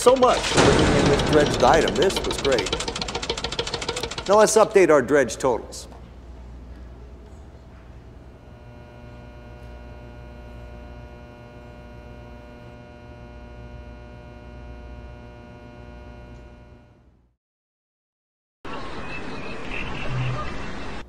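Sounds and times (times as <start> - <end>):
buzzy electrical hum: 0.0 - 17.3.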